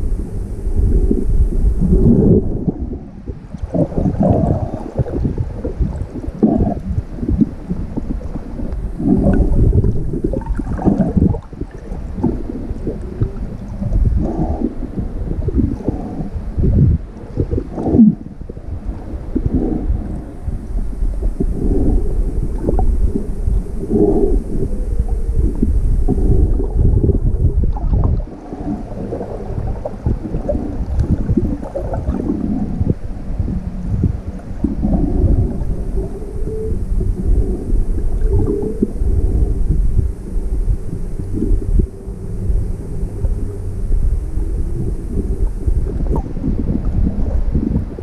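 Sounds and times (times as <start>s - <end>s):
bubbling: 0.0s - 48.0s
crackles: 0.0s - 48.0s
underwater water rushes and gurgles: 0.0s - 48.0s.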